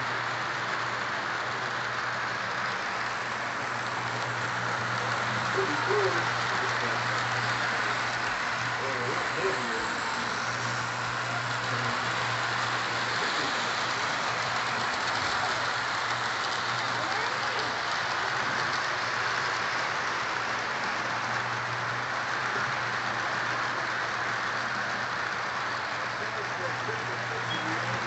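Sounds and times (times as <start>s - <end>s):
model train wheels rattling on rails: 0.0s - 28.0s.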